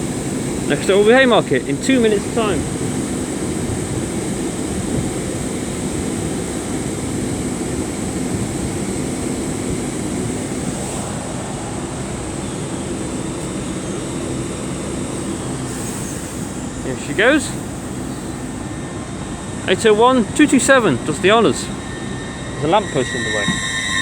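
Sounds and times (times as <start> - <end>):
trains humming at platform: 0.0 - 24.0.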